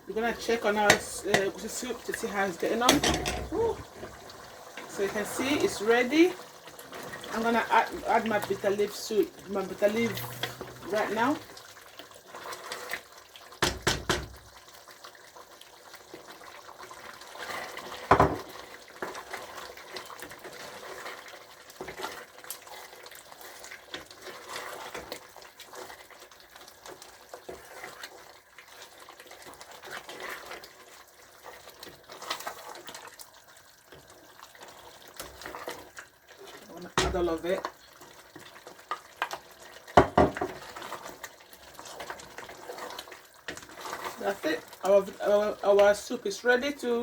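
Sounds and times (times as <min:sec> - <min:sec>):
liquid sloshing in pot: 0:00.2 - 0:45.6.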